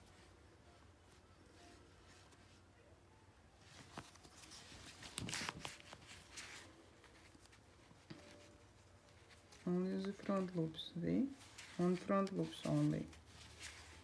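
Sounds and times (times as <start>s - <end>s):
yarn rustling: 0.0s - 2.8s, 3.6s - 14.0s.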